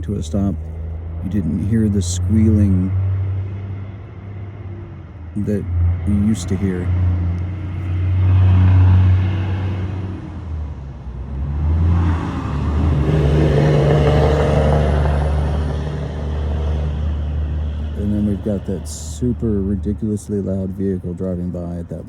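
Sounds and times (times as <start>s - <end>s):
loud vehicle engine rumble: 0.0s - 22.0s.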